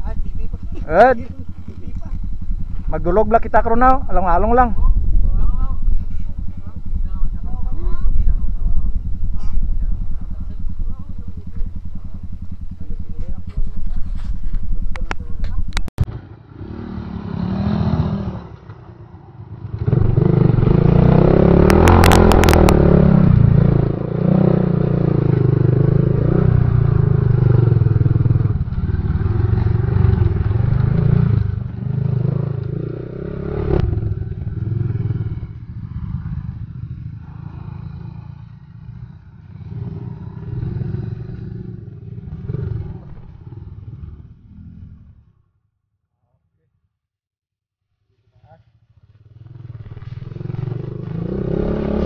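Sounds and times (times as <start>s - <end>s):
motorcycle engine running: 0.0s - 45.4s, 48.3s - 52.0s.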